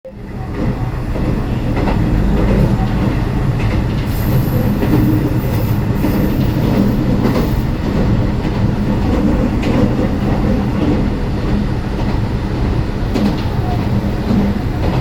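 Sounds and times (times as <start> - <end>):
rail-joint clicks: 0.1 - 15.0
train wheels rumbling: 0.1 - 15.0.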